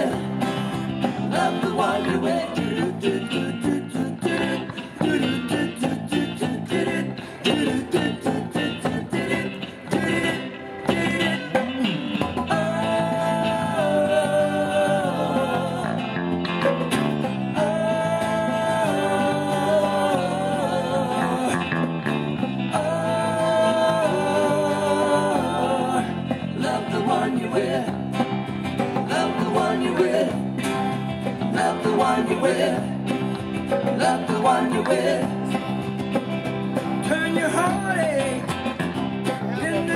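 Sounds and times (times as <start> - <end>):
acoustic guitar: 0.0 - 39.9
electric bass: 0.0 - 39.9
electric guitar: 0.0 - 39.9.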